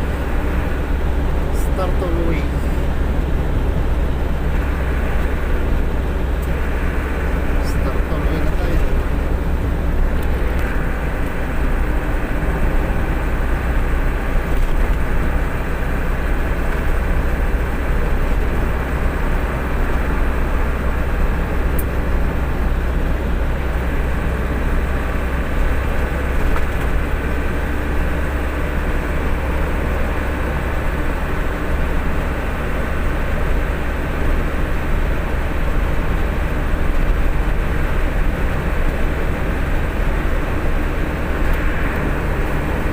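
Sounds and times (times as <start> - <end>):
truck engine and road noise: 0.0 - 42.9.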